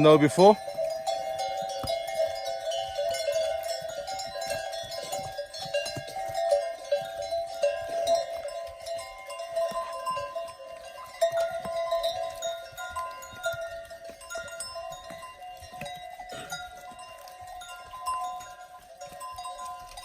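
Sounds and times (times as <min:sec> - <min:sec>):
bells clanging: 0:00.0 - 0:20.0.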